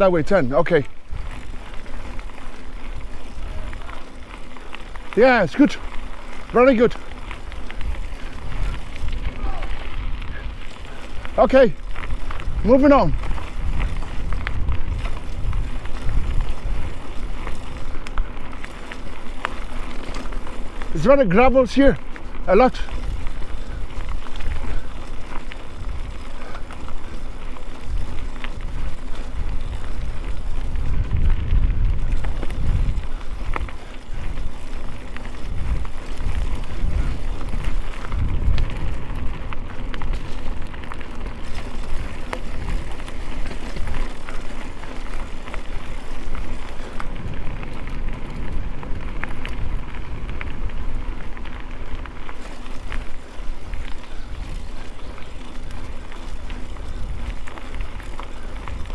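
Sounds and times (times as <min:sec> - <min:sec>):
bike tyres crunching on gravel: 0:00.0 - 0:58.9
wind buffeting microphone: 0:00.0 - 0:58.9.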